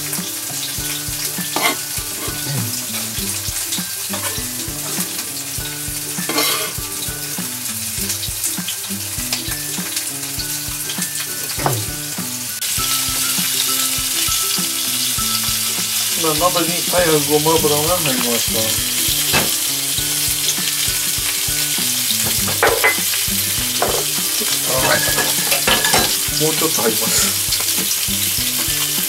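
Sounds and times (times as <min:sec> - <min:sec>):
frying sizzle: 0:00.0 - 0:29.0.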